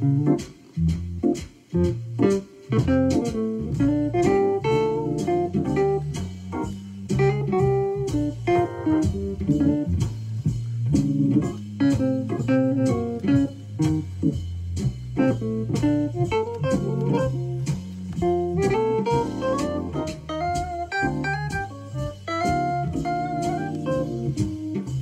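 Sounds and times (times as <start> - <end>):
backing track with bass line: 0.0 - 25.0
electronic wind instrument jazz solo: 0.0 - 25.0.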